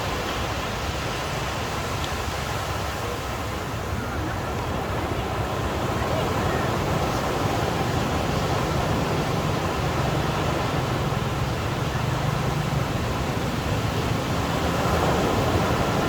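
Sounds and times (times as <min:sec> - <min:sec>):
ocean surf on beach: 0:00.0 - 0:16.0.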